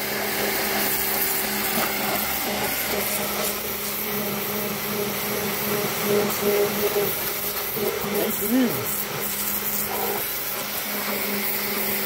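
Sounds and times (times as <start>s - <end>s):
pressure washer motor humming: 0.0s - 12.0s
water jet hissing on roof tiles: 0.0s - 12.0s.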